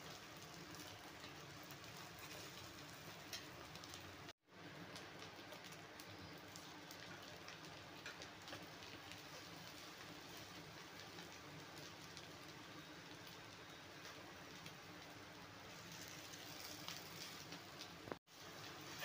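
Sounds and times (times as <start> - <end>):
egg sizzling in hot oil: 0.0 - 19.0.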